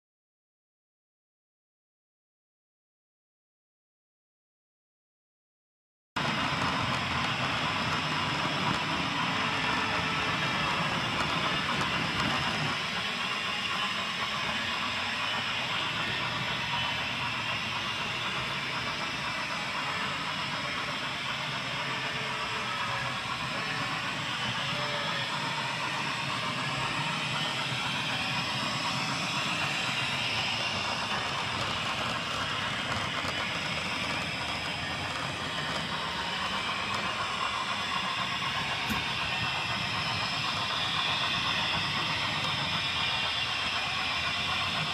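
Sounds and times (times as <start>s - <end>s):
model train rumbling on track: 6.2s - 44.9s.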